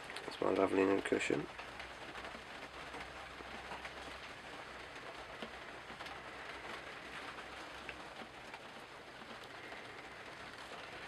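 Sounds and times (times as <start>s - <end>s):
rain on a boat roof: 0.0s - 11.0s.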